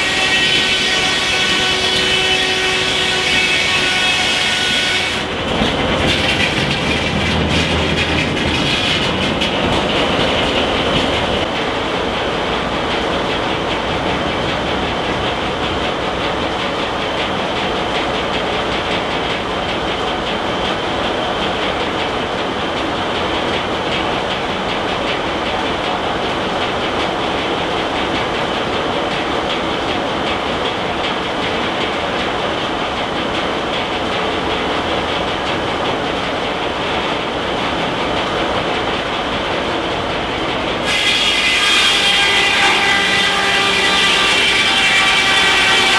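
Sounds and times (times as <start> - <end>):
steam-powered circular saw mill running: 0.0 - 45.9.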